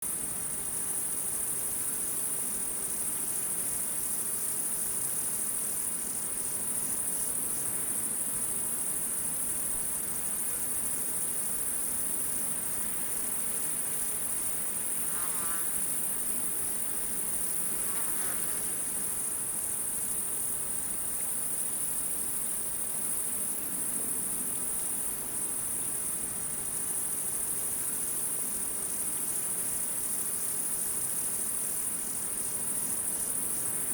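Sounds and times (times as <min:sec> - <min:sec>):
night insects chorus: 0:00.1 - 0:33.9.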